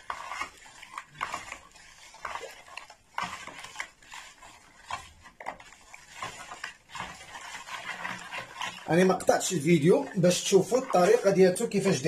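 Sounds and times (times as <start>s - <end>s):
spoon scraping plastic basin: 0.0s - 12.0s
water swishing: 0.0s - 12.0s.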